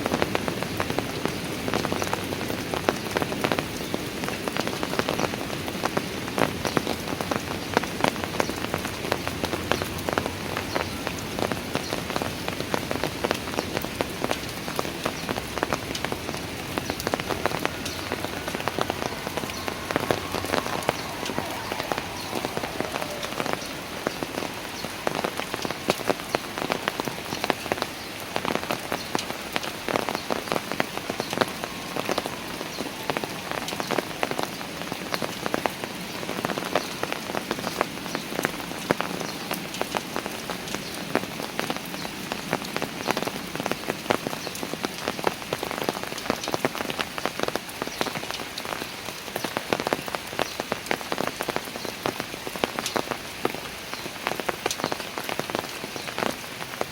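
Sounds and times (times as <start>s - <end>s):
rain on stairs: 0.0s - 56.9s
raindrops ticking: 0.0s - 56.9s.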